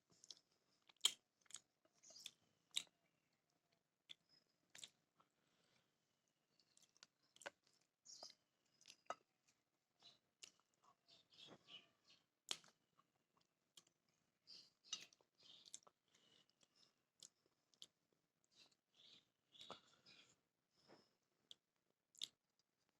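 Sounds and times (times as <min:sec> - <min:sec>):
quiet chewing: 0:00.0 - 0:22.9.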